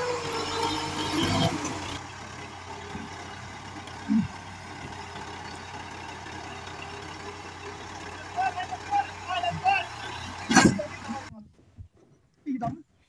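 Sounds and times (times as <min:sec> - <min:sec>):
diesel tractor engine idling: 0:00.0 - 0:11.3.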